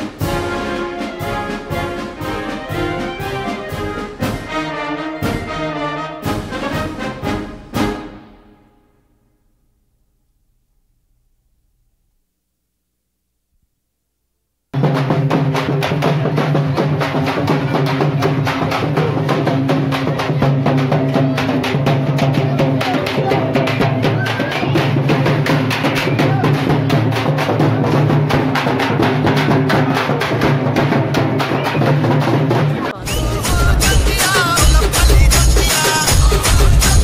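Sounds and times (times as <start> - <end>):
crowd voices: 0.0 - 8.2, 15.6 - 37.0
procession drums beaten rapidly: 0.0 - 8.6, 14.7 - 37.0.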